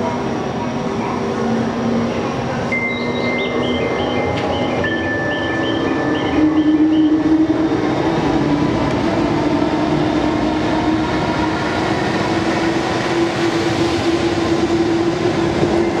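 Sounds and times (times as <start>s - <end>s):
locomotive rolling noise: 0.0s - 16.0s.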